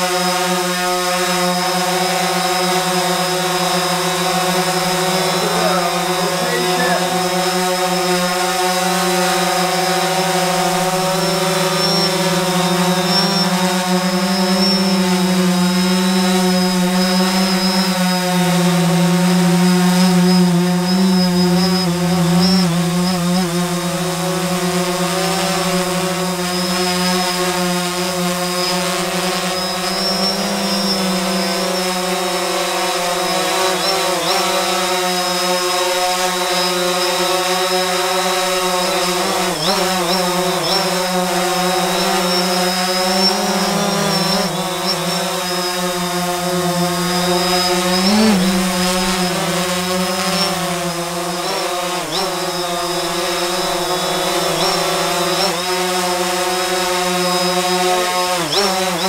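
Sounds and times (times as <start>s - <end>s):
quadcopter buzzing whine: 0.0s - 59.0s.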